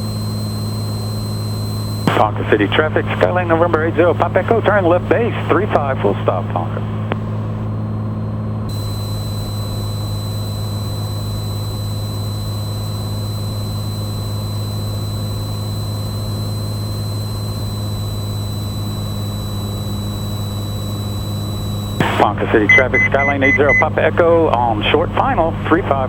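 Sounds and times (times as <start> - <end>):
thin high whine: 0.0 - 5.9, 8.7 - 26.0
propeller plane engine drone: 0.0 - 26.0.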